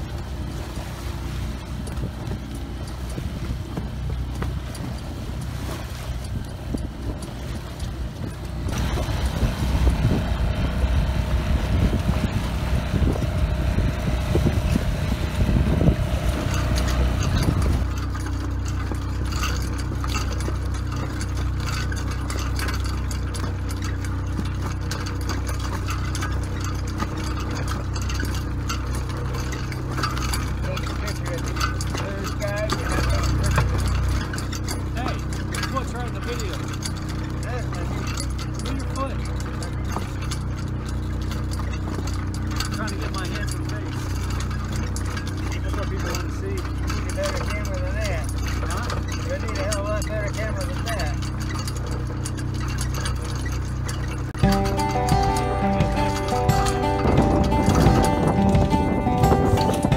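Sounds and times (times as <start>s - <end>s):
wind rumbling on microphone: 0.0s - 49.6s, 50.4s - 59.9s
light rapid rattle: 0.0s - 59.9s
outboard motor running: 0.0s - 59.9s
water splashing along boat hull: 0.0s - 59.9s.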